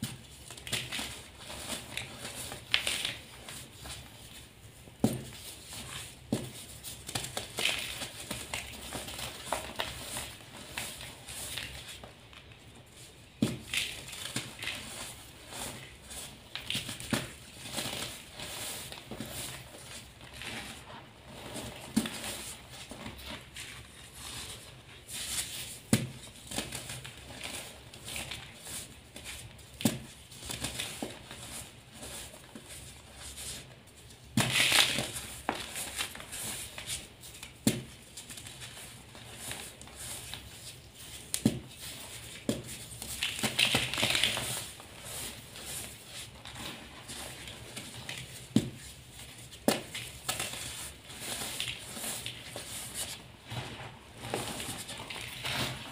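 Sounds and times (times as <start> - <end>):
chalk crumbling: 0.1 - 55.9.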